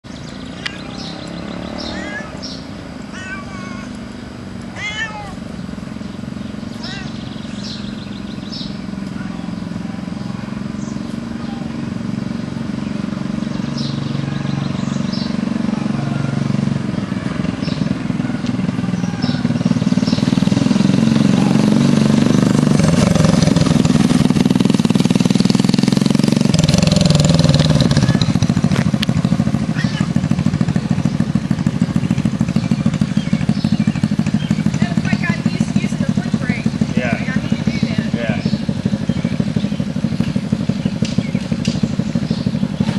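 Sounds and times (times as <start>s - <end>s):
mini motorcycle engine running: 0.2s - 42.9s.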